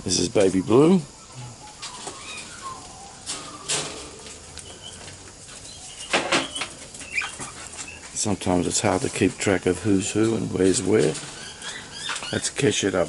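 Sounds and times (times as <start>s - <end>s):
bird calls: 0.0s - 8.2s, 10.6s - 13.0s
birds rustling: 0.0s - 13.0s.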